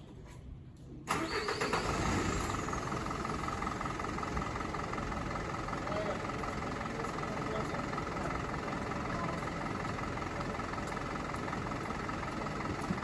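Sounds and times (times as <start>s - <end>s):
engine starting and running: 1.0s - 13.0s.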